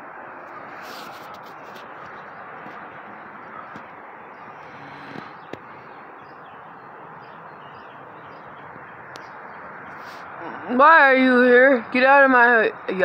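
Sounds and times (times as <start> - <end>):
city background noise: 0.0 - 13.0.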